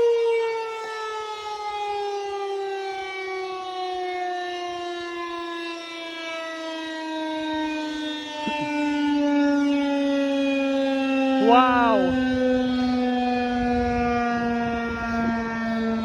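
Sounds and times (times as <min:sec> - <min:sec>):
warning siren sliding downward: 0:00.0 - 0:16.0.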